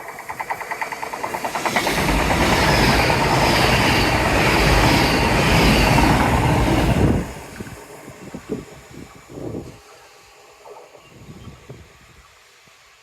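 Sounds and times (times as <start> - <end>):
train rushing past: 0.0 - 10.6.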